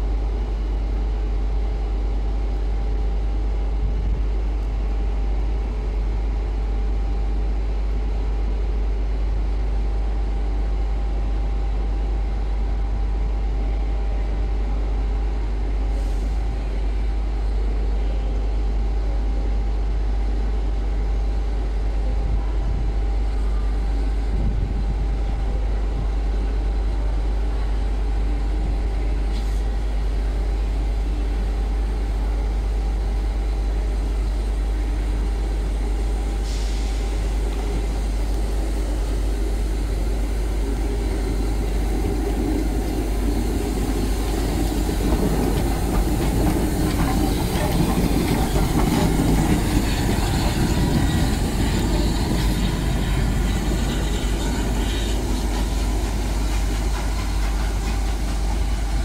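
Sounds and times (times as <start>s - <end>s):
steam locomotive rumbling over track: 0.0s - 59.0s.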